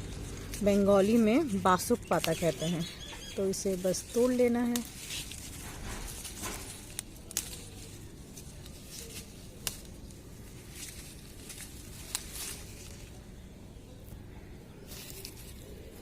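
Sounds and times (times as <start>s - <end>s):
leaf stalks snapping: 0.0s - 13.4s, 14.9s - 16.0s
leaves rustling: 0.0s - 16.0s.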